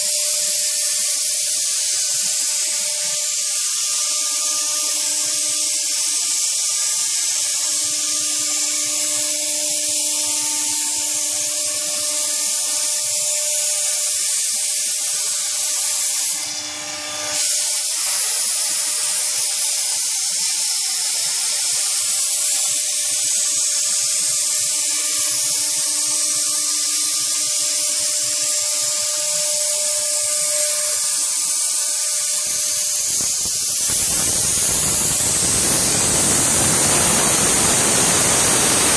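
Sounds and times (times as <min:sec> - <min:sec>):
bit cutting foam hiss: 0:00.0 - 0:38.9
router spindle whining: 0:00.0 - 0:38.9.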